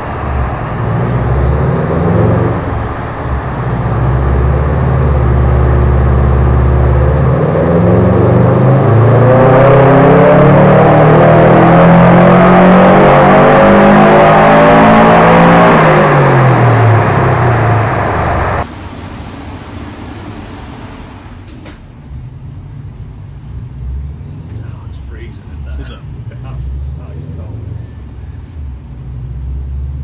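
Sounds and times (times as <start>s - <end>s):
turbocharged engine revving: 0.0s - 30.0s.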